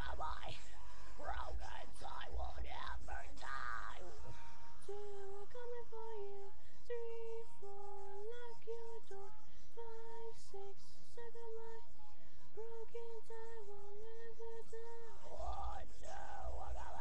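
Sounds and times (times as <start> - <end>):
girl singing wordless melody: 0.0 - 17.0.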